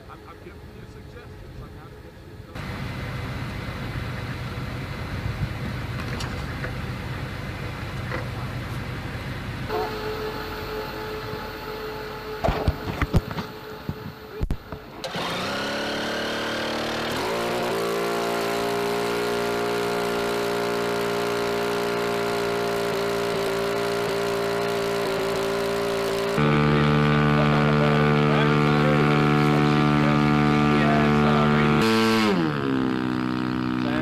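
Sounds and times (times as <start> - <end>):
propeller aircraft engine drone: 0.0 - 34.0.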